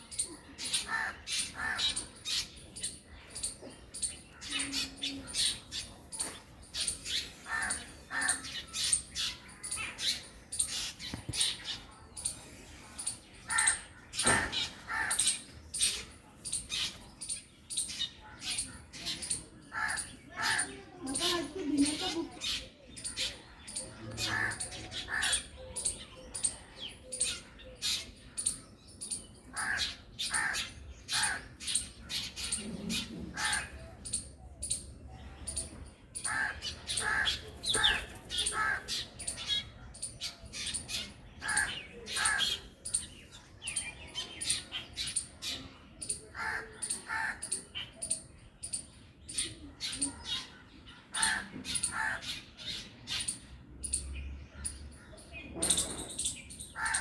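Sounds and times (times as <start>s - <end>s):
bird and squirrel calling: 0.0s - 57.0s.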